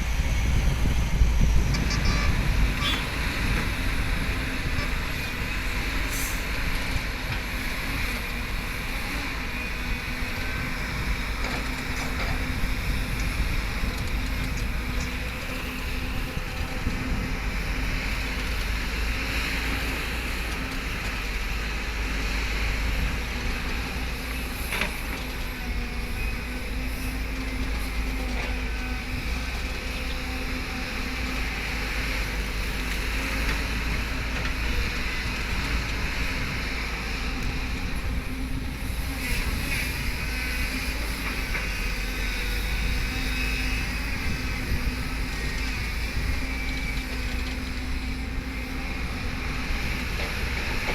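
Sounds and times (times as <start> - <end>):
excavator engine drone with rattle: 0.0 - 50.9.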